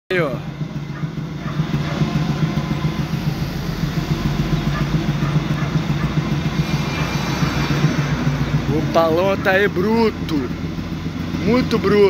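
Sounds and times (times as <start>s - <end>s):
car engine rumbling at idle: 0.1s - 12.0s.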